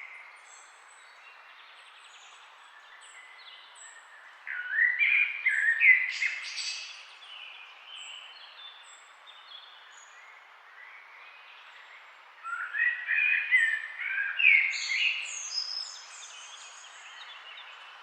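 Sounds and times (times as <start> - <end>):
songbirds chirping: 0.0 - 18.0
steady background hiss: 0.0 - 18.0.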